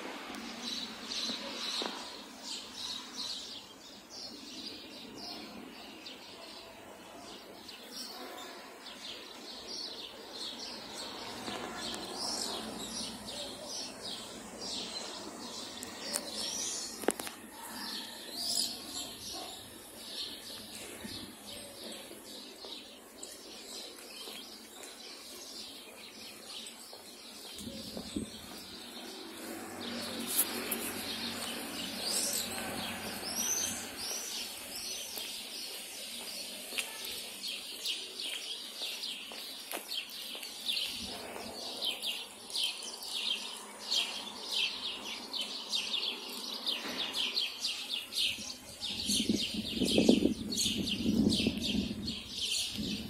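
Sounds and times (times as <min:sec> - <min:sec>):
small birds chirping: 0:00.4 - 0:53.0.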